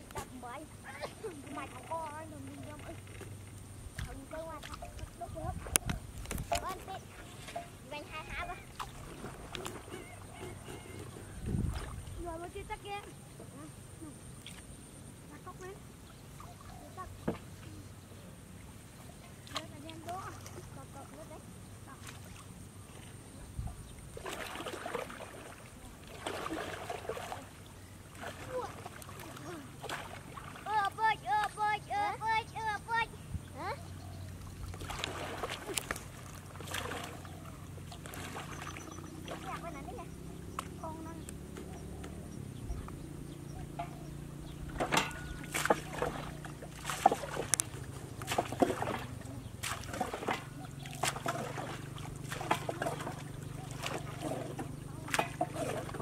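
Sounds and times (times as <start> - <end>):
low steady hum: 0.0 - 56.0
water splashing and sloshing: 0.0 - 56.0.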